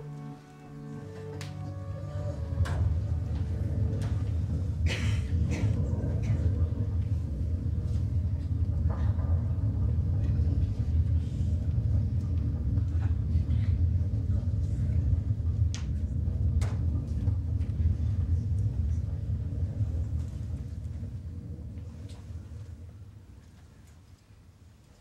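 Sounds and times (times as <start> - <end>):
deep earthquake rumble: 2.0 - 23.8.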